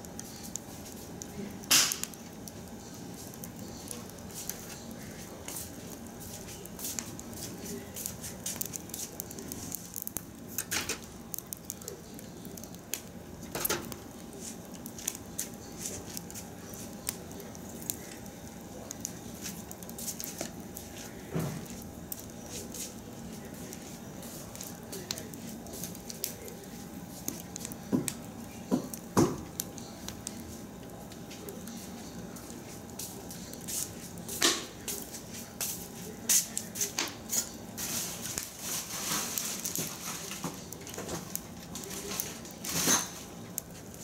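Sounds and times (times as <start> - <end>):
wood fire crackling and popping: 0.0 - 44.0.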